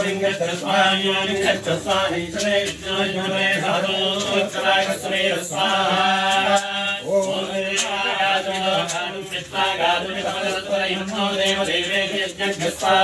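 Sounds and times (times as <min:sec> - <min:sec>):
man chanting mantras: 0:00.0 - 0:13.0.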